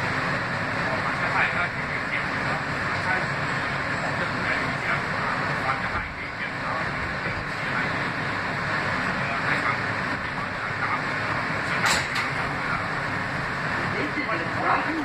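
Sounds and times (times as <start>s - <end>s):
subway car running and braking: 0.0s - 15.0s.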